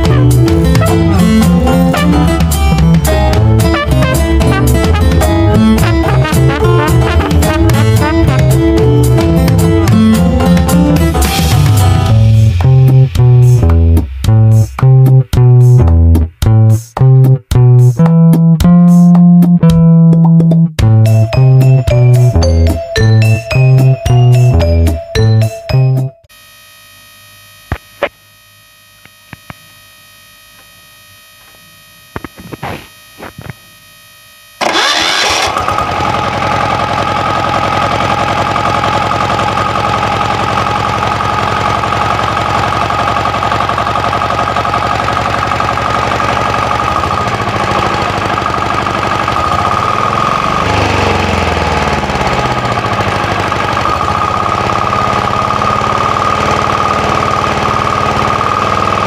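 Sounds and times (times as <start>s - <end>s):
diesel engine starting and running: 0.0s - 25.8s, 34.6s - 59.0s.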